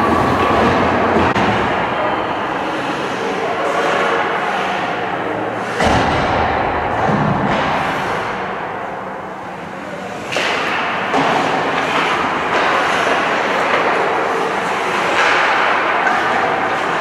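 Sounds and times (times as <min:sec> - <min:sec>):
ice hockey arena din: 0:00.0 - 0:17.0.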